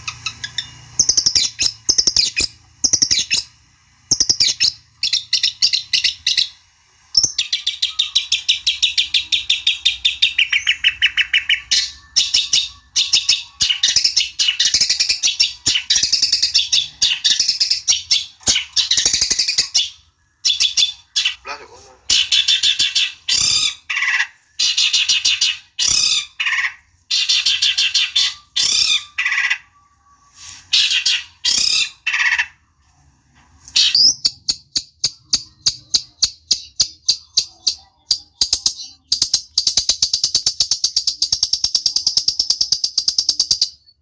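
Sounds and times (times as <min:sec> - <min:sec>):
shrike rapid chattering song: 0:00.0 - 0:29.7, 0:33.8 - 0:43.9.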